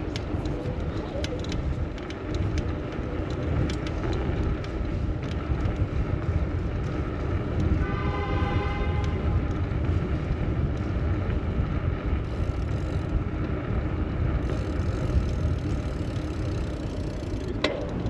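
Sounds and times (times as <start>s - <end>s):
bicycle clicks and rattles: 0.0s - 18.0s
road traffic rumble: 0.0s - 18.0s.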